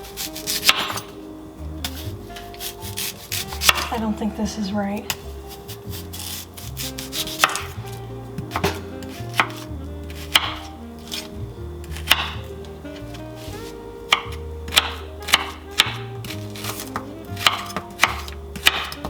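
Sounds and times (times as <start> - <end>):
knife chopping on cutting board: 0.1 - 1.1, 1.8 - 4.0, 5.1 - 12.5, 13.1 - 19.0.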